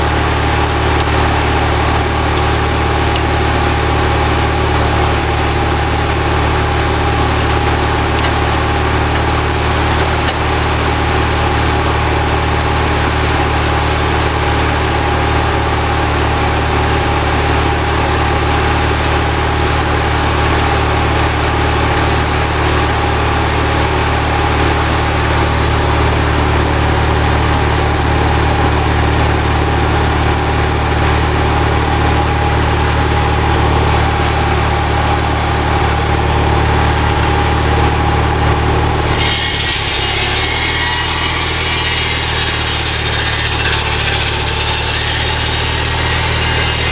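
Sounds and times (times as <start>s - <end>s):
sawmill engine hum and whine: 0.0s - 46.9s.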